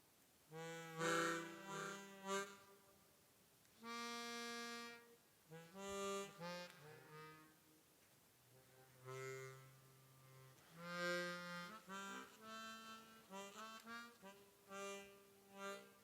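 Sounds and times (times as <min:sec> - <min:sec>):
bass harmonica notes with reverb: 0:00.5 - 0:03.0, 0:03.8 - 0:07.7, 0:08.5 - 0:16.0.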